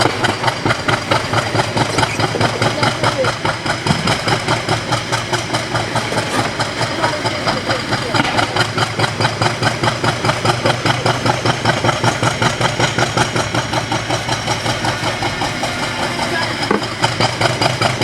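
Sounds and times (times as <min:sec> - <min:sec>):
diesel locomotive engine idling: 0:00.0 - 0:18.0.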